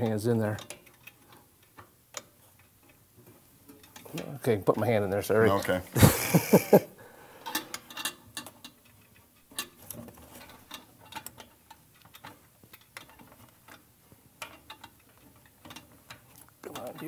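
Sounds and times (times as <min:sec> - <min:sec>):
metallic clicks and scrapes: 0:00.0 - 0:05.8, 0:07.4 - 0:17.0.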